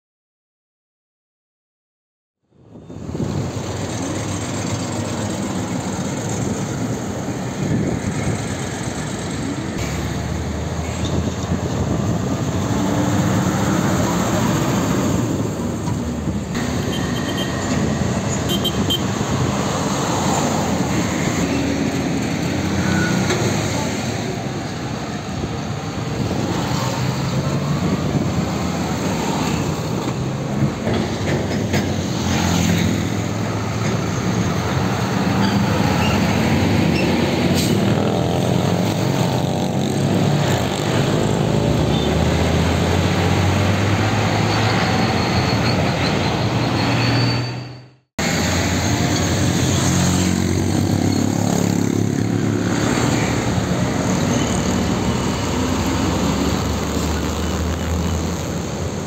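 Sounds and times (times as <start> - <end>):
traffic noise: 2.4 - 59.0
heavy diesel trucks passing: 2.6 - 59.0.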